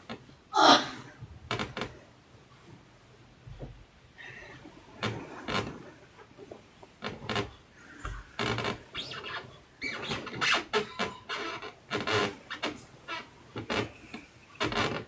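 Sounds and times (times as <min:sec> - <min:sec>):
rustling and rubbing: 0:01.2 - 0:15.0.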